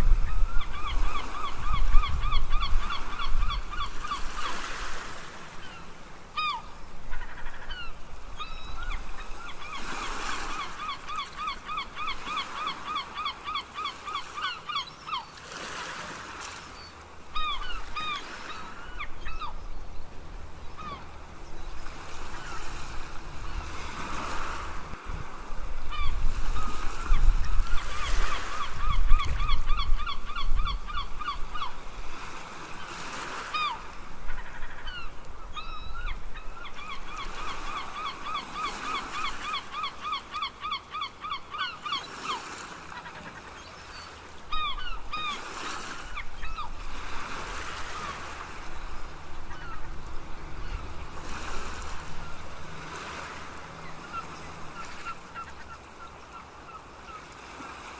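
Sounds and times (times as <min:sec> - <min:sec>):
ocean waves breaking: 0:00.0 - 0:57.9
seagulls calling: 0:00.0 - 0:57.9.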